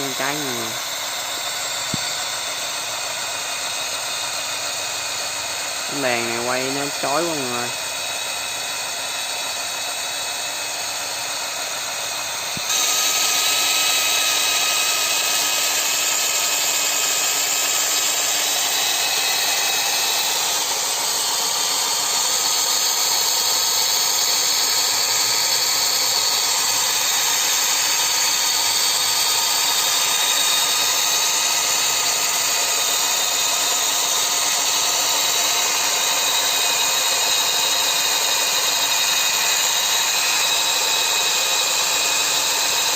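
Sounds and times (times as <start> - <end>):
small electric motors whining: 0.0 - 42.9.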